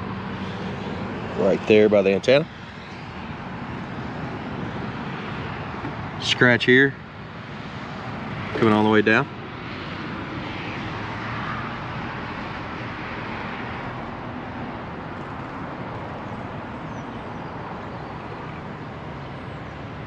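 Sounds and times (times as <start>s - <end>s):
road traffic rushing: 0.0s - 20.0s.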